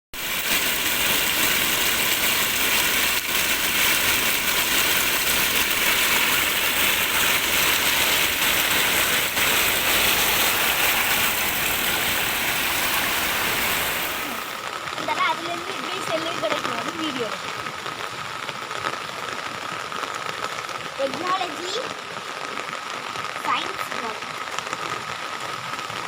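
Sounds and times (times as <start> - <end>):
dense rush of water: 0.2 - 26.0.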